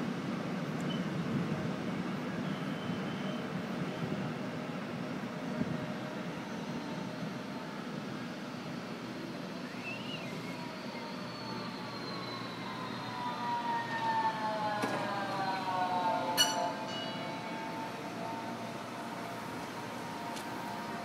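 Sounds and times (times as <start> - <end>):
tram rumble: 0.0 - 21.0
tram motor whine: 1.2 - 21.0.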